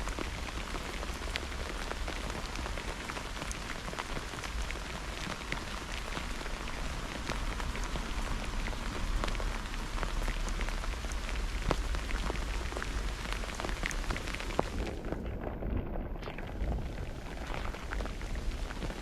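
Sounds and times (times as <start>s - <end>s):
raindrops ticking close: 0.0s - 19.0s
steady rain falling: 0.0s - 19.0s.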